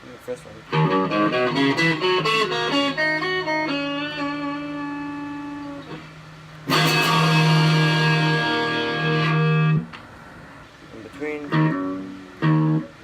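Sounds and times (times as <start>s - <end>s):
electric guitar notes and chord: 0.7s - 10.6s, 11.4s - 13.0s.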